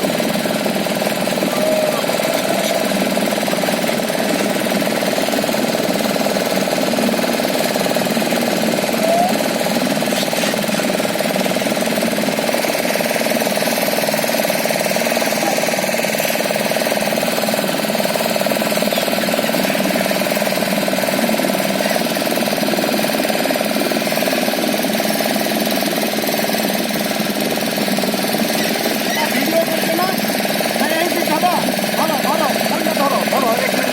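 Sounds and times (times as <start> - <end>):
engine droning steadily: 0.0 - 33.9.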